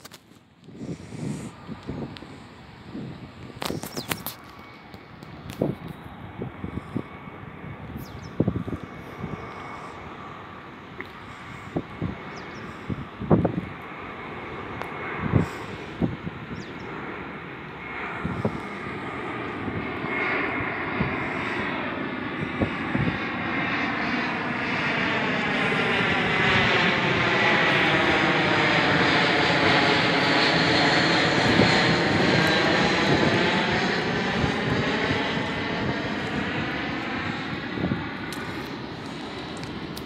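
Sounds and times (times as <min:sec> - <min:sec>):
jet passing overhead: 0:00.0 - 0:40.0.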